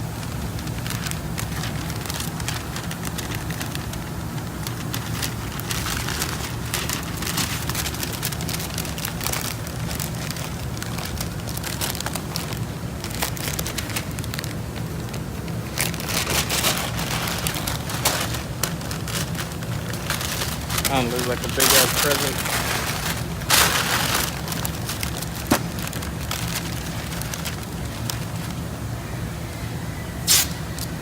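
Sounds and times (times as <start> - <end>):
masking paper crinkling: 0.0 - 31.0
steady low hum: 0.0 - 31.0.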